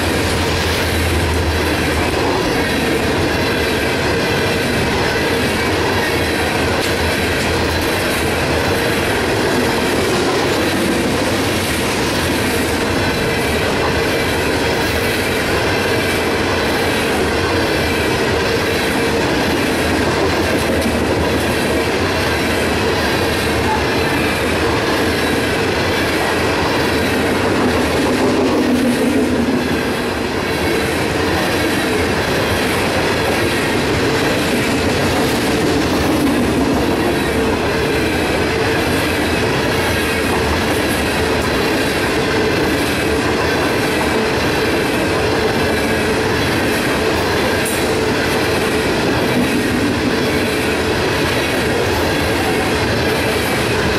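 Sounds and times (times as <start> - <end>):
freight train cars rolling: 0.0 - 53.9.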